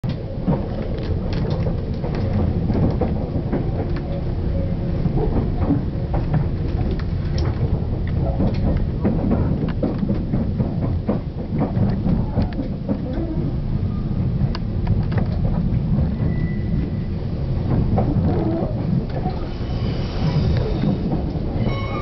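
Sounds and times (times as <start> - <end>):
running gear clicks and clatter: 0.0 - 19.6
train wheels rumbling on track: 0.0 - 22.0.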